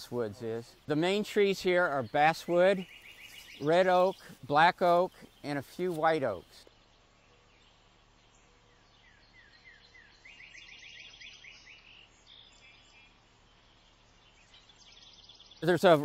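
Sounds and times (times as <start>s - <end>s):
faint songbird calls: 0.0s - 16.0s.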